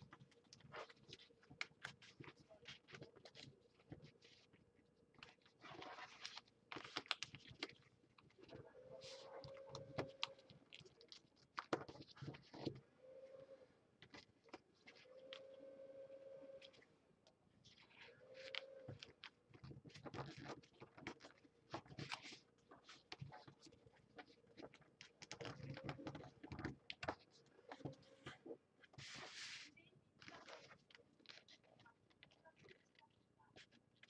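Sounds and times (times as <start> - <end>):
paper folding and crinkling: 0.0 - 12.8, 14.0 - 16.9, 17.6 - 34.0.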